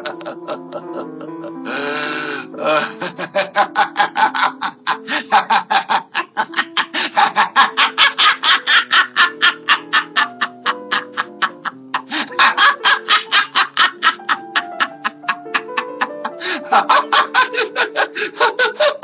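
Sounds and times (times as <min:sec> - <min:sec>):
background music with held notes: 0:00.0 - 0:19.0
person laughing hard: 0:00.0 - 0:19.0.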